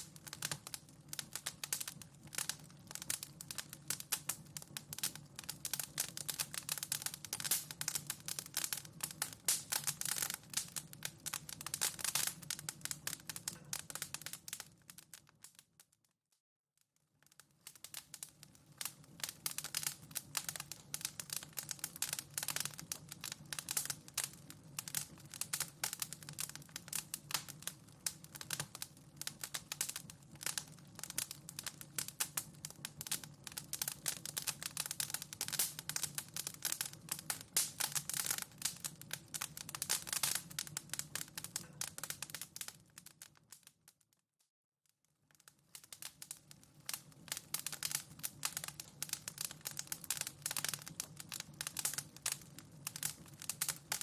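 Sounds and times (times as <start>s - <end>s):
low hum of flames: 0.0s - 15.0s, 17.8s - 43.0s, 45.8s - 54.0s
wood fire crackling: 0.0s - 16.0s, 17.1s - 44.0s, 45.2s - 54.0s.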